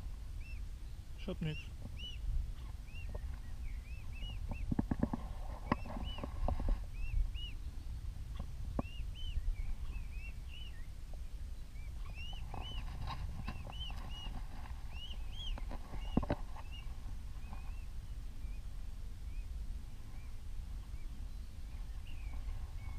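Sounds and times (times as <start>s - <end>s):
swan cygnets peeping: 0.0s - 22.9s.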